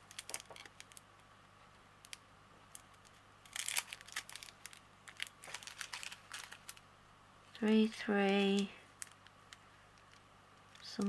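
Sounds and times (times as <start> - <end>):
plastic bags crinkling: 0.0 - 1.1, 2.0 - 6.9, 7.5 - 11.0.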